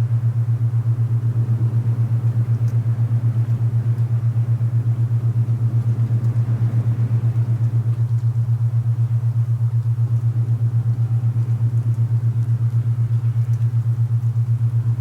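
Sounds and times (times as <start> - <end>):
low pulsing binaural beat tone: 0.0 - 15.0.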